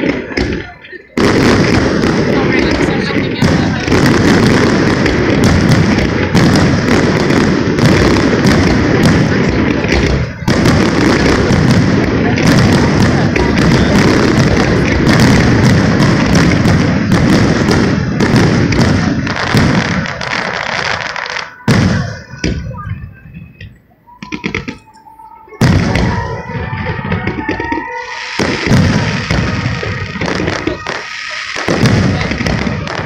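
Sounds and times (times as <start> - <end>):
fireworks bursting and crackling: 0.0 - 33.0.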